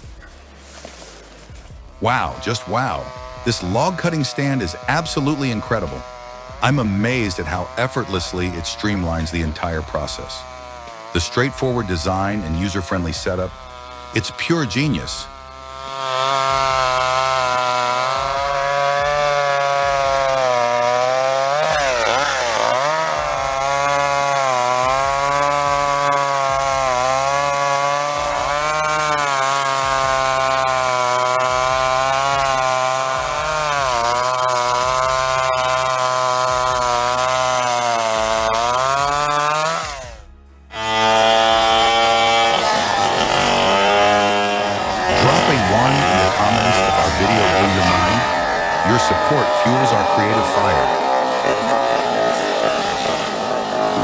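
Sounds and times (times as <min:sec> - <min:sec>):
chainsaw cutting logs: 0:00.0 - 0:54.0.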